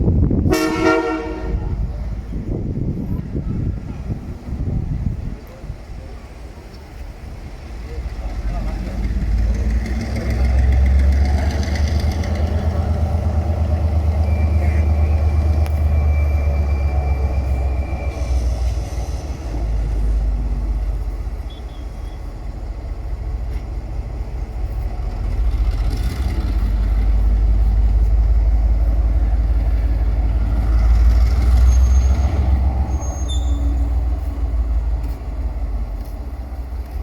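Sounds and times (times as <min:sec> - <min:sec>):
diesel locomotive rumbling: 0:00.0 - 0:37.0.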